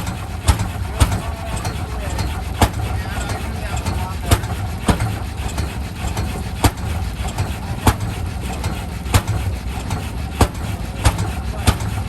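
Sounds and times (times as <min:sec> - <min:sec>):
sharp exhaust bangs: 0:00.0 - 0:12.0
tractor engine running slowly: 0:00.0 - 0:12.0.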